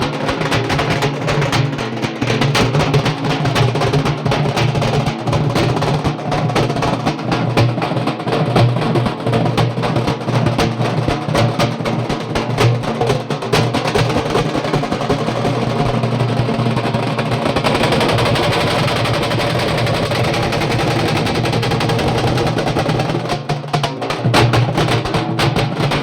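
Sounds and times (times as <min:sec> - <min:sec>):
frame drums beaten fast: 0:00.0 - 0:26.0.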